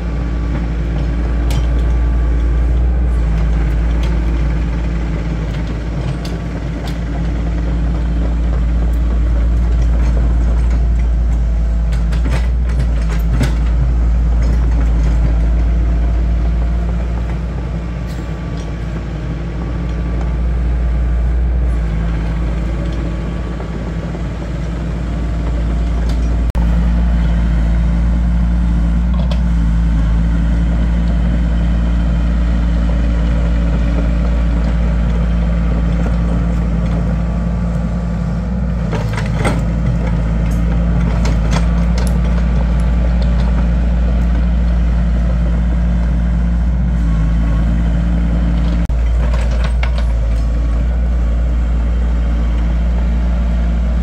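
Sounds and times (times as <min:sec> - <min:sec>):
excavator diesel engine humming: 0:00.0 - 0:54.0.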